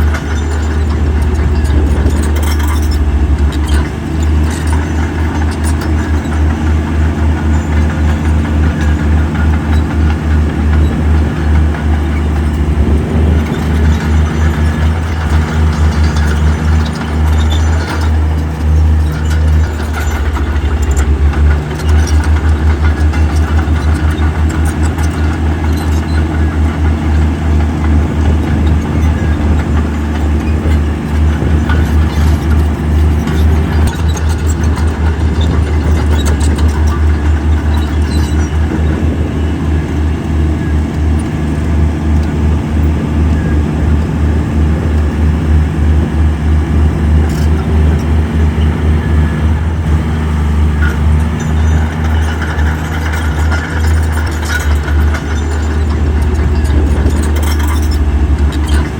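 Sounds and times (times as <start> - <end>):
heavy diesel engine throbbing: 0.0 - 58.9.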